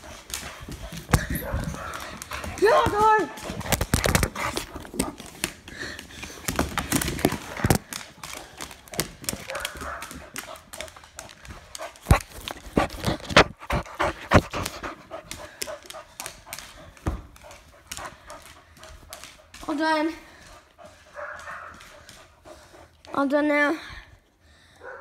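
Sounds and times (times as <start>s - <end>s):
dogs panting: 0.0s - 25.0s.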